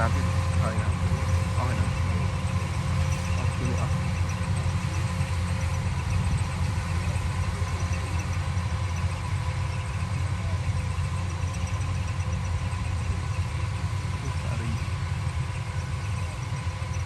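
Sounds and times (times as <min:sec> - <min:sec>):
engine running with low rumble: 0:00.0 - 0:17.0
faint steady whine: 0:00.0 - 0:17.0.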